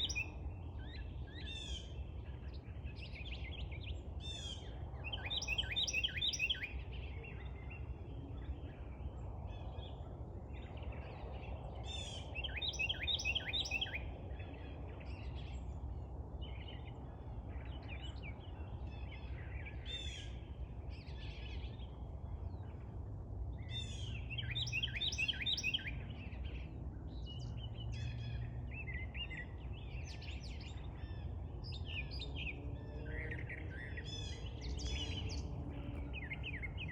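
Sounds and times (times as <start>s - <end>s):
songbird singing: 0.0s - 36.9s.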